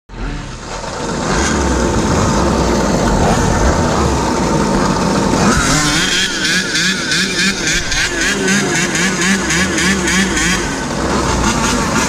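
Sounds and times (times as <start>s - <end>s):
small engines idling: 0.1s - 12.0s.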